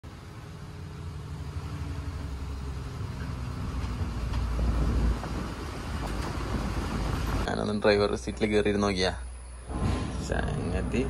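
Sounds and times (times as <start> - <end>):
lorry engine rumble from cab: 0.0 - 11.0.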